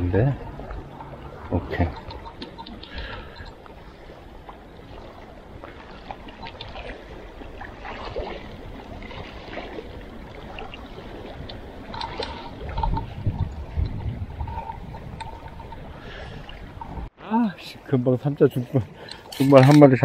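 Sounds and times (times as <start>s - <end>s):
water lapping and trickling: 0.0s - 20.0s.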